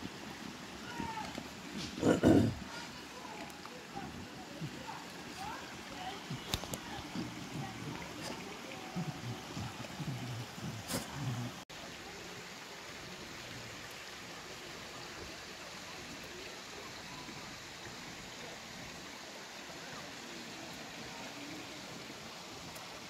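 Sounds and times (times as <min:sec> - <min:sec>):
stream and waterfall rushing: 0:00.0 - 0:23.0.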